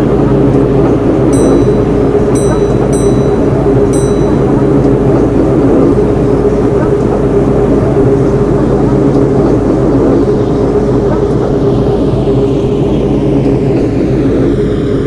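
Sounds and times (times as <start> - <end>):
electric train drone: 0.0 - 15.0.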